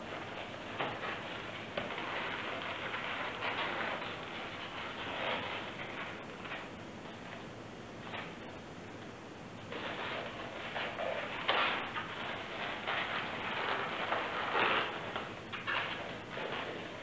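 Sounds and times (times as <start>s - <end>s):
balloons rubbing and rustling: 0.0s - 7.2s, 9.6s - 17.0s.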